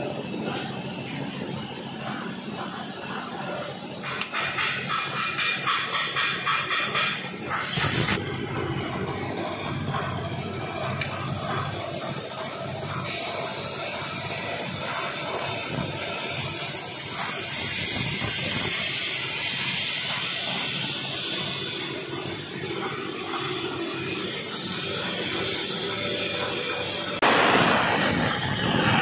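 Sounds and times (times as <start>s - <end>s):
plasma cutter hissing and humming: 0.0s - 8.2s, 10.8s - 29.0s.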